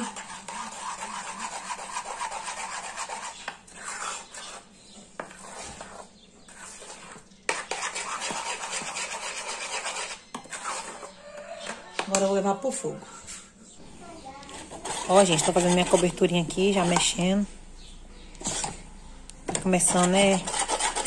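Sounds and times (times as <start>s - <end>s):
spoon scraping metal saucepan: 0.0s - 12.4s, 14.4s - 17.4s, 18.3s - 18.9s, 19.5s - 21.0s.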